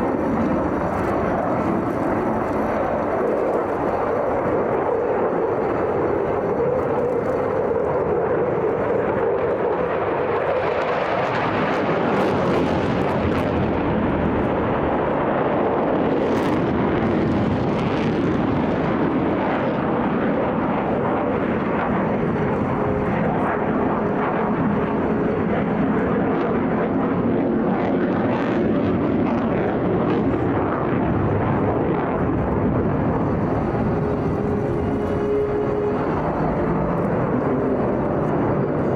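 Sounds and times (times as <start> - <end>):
jet fighter engine roar: 0.0 - 38.9.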